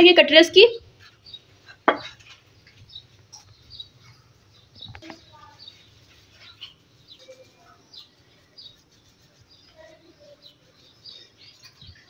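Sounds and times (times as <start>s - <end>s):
faint bird chirps: 1.0s - 12.0s.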